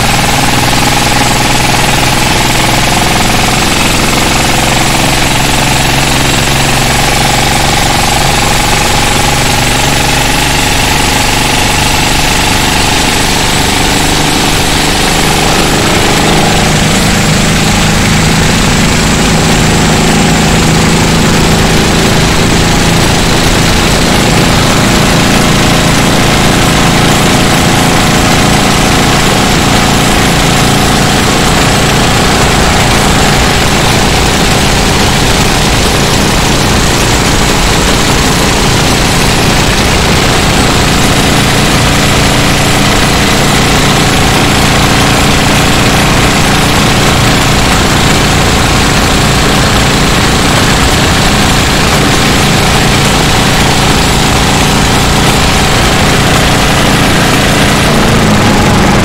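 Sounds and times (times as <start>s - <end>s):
boat diesel engine clattering: 0.0s - 59.0s
wind and water rushing: 11.2s - 59.0s.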